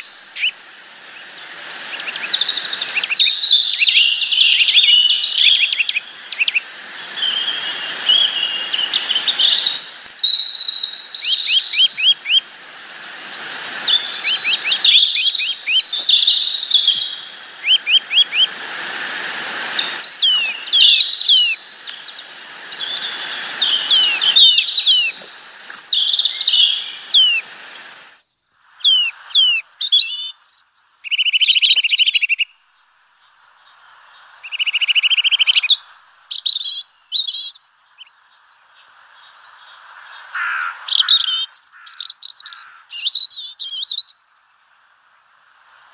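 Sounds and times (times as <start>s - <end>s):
songbirds calling and singing: 0.0s - 12.5s, 13.1s - 44.6s.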